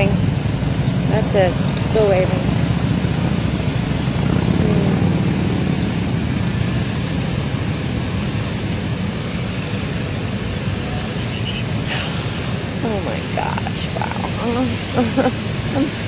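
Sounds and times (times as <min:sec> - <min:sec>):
motorcycles riding past: 0:00.0 - 0:16.0.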